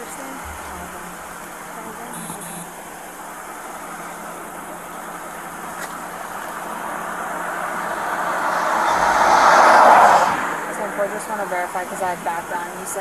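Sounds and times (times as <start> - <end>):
roadside traffic noise: 0.0 - 13.0
vehicle approaching: 0.0 - 13.0.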